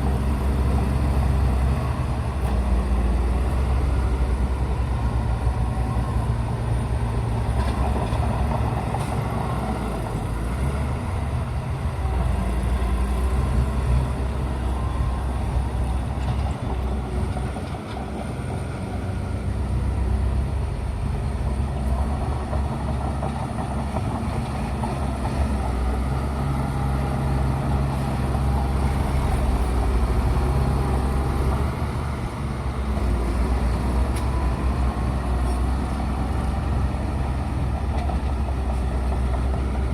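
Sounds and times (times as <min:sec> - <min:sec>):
diesel engine low rumble: 0:00.0 - 0:39.9.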